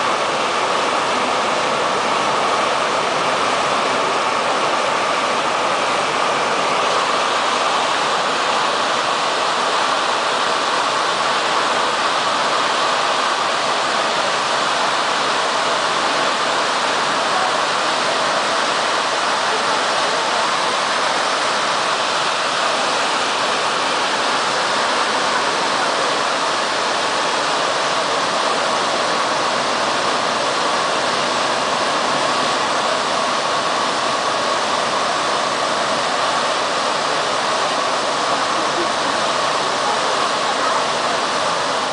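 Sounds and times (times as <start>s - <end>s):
car wash drying blowers: 0.0s - 41.9s.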